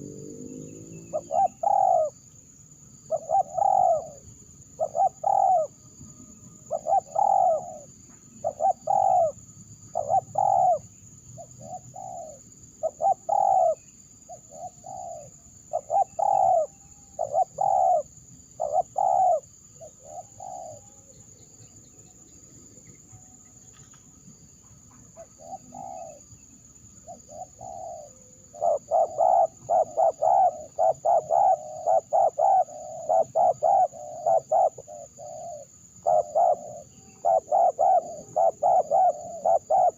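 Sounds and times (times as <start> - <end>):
dove cooing: 0.0 - 2.2, 3.1 - 4.2, 4.8 - 5.8, 6.7 - 21.0, 24.9 - 26.3, 27.0 - 39.9.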